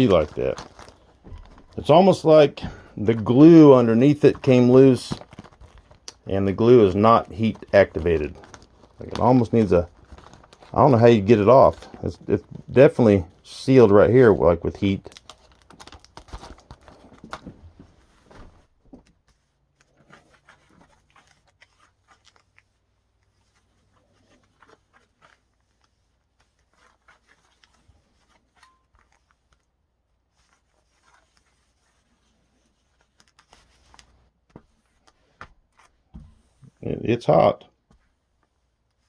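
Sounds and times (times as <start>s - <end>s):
plastic film rubbing and crinkling: 0.0s - 39.0s.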